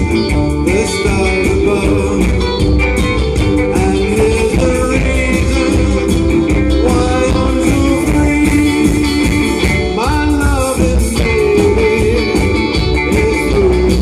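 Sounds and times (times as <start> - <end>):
bass guitar: 0.0 - 14.0
drums: 0.0 - 14.0
electric guitars: 0.0 - 14.0
keyboard: 0.0 - 14.0.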